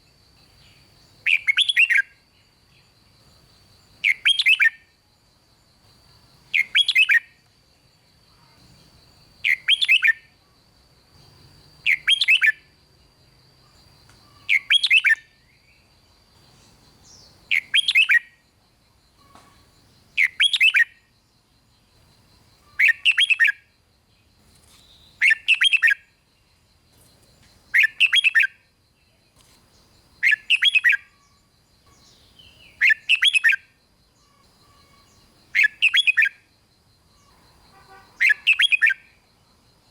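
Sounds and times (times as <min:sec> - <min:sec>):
bulbul singing: 0:00.4 - 0:05.0, 0:05.9 - 0:10.4, 0:11.2 - 0:39.9.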